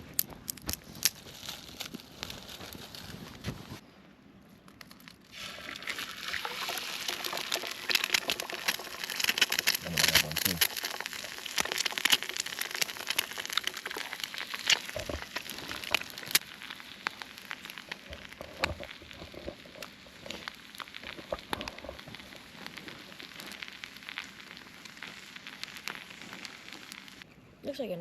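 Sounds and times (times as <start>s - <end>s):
campfire crackling and popping: 4.7s - 27.3s.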